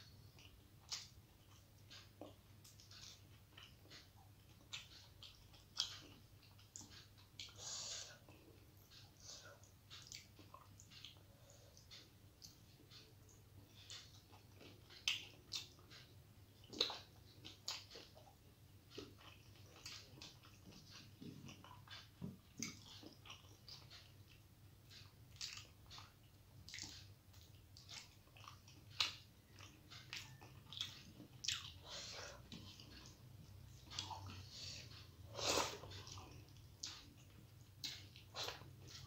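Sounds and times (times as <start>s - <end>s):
faint low hum: 0.0s - 39.0s
person chewing food: 0.0s - 39.0s.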